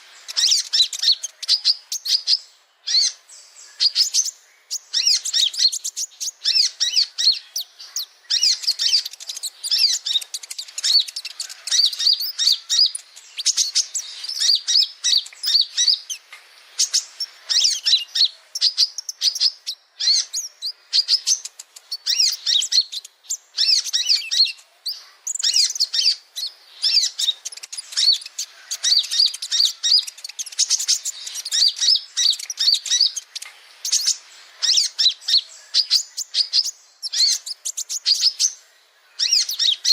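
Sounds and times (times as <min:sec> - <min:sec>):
sunbird twittering song: 0:00.0 - 0:39.9.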